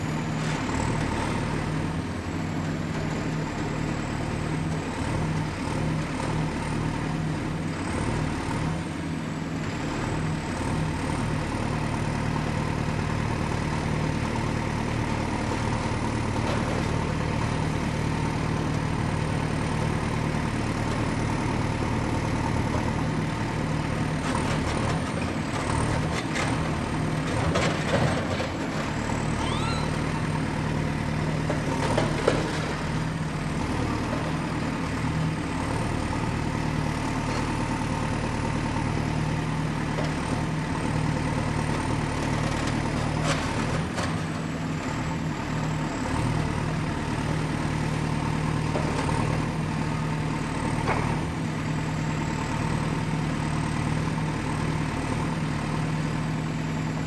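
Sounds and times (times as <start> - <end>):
excavator engine running: 9.4 - 57.0.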